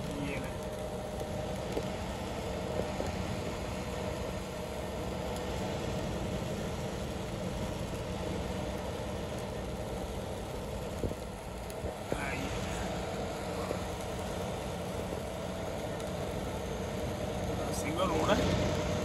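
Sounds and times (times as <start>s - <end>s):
engine and tyre noise on wet road: 0.0s - 19.0s.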